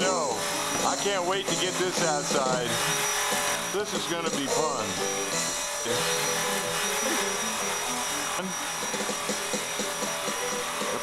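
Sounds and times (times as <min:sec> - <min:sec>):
rc helicopter high whine: 0:00.0 - 0:11.0
rotor rushing noise: 0:00.0 - 0:11.0.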